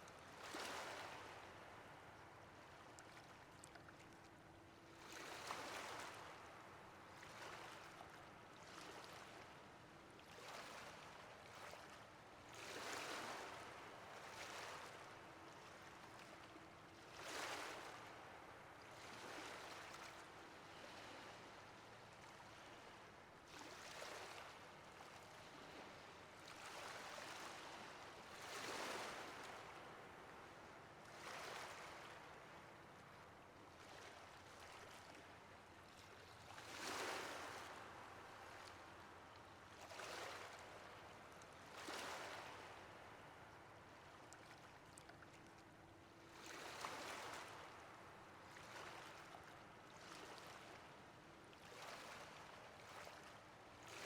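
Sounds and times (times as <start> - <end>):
faint ocean waves: 0.0 - 54.0.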